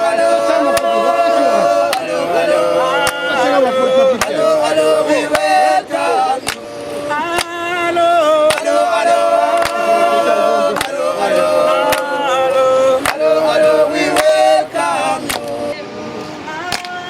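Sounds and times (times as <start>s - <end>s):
voices singing in harmony: 0.0s - 17.0s.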